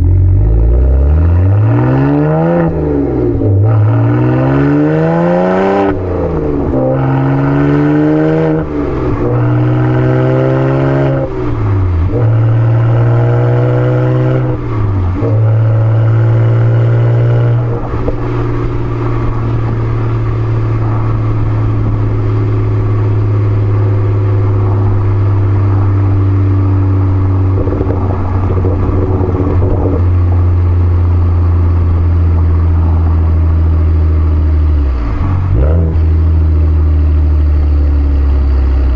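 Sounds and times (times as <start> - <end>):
car engine exhaust revving: 0.0 - 38.9.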